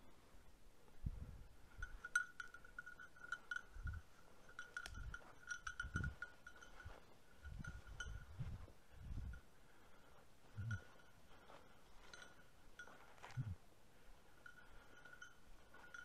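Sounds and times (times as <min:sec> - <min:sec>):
faint dog bell jingling: 0:01.3 - 0:16.0.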